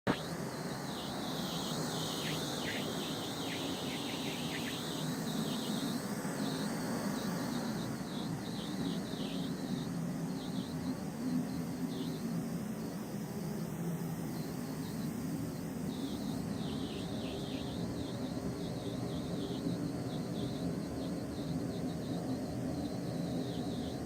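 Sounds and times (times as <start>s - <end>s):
high hiss: 0.1s - 21.6s
mechanical hum: 0.1s - 24.0s.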